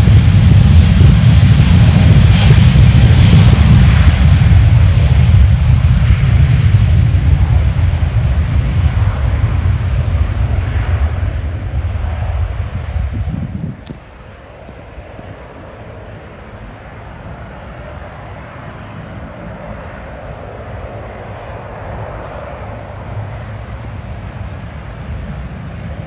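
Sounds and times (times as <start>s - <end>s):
jet engines roaring: 0.0s - 26.0s
loud low rumble: 0.0s - 26.0s.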